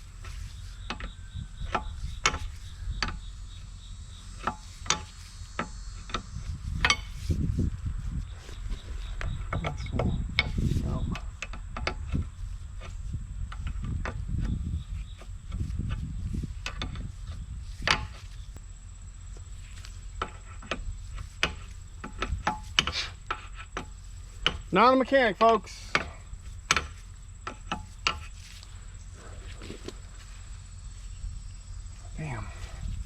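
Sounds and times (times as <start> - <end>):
handling rumble: 0.0 - 33.0
insect drone: 0.0 - 33.0.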